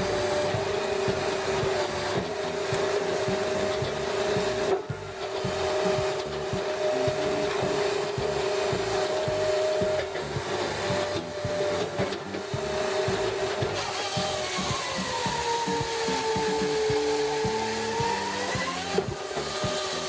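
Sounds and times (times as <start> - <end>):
log splitter whining: 0.0 - 20.0.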